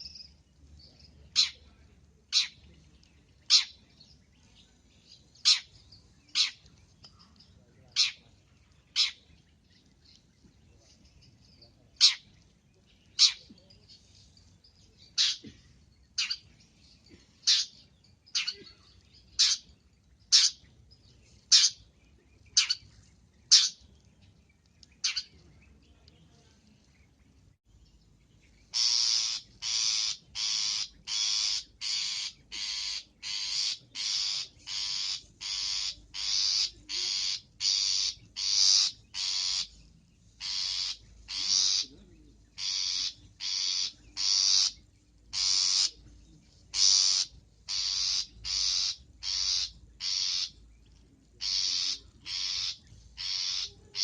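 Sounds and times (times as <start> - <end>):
songbird chirps and calls: 0.0 - 54.0.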